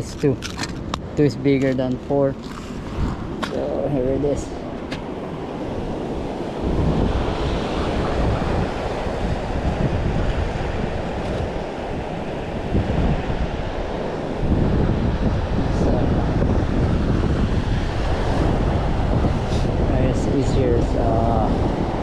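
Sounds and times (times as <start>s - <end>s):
wind buffeting the microphone: 0.0s - 22.0s
ocean surf: 2.4s - 22.0s.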